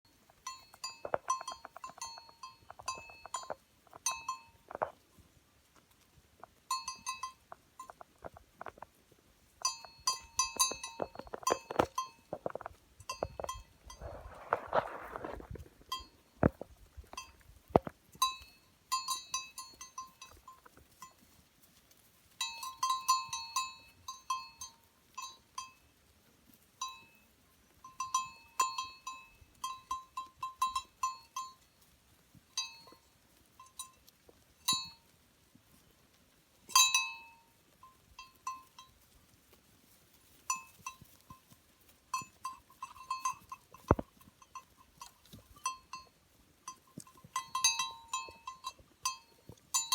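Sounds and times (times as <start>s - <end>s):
sheep bells clinking: 0.1s - 49.9s.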